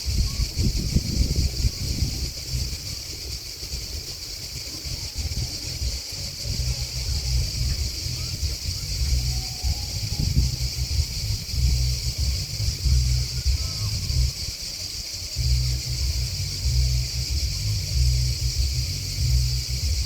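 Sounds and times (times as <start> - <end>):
grasshoppers and crickets chirping: 0.0 - 20.0
low wind rumble on microphone: 0.0 - 20.0.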